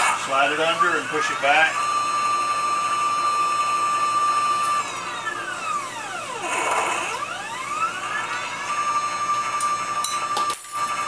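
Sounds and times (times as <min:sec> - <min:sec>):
motor whine: 0:00.0 - 0:11.0.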